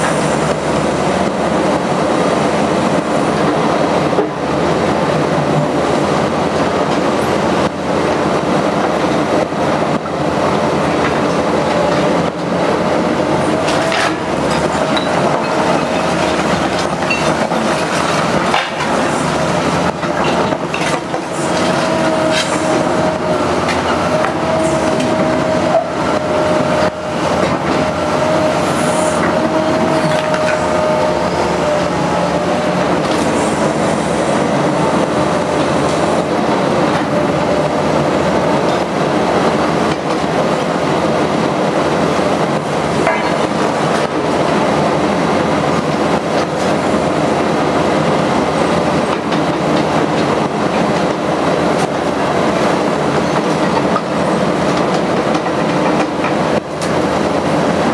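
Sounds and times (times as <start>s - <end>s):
excavator diesel engine under load: 0.0s - 57.9s.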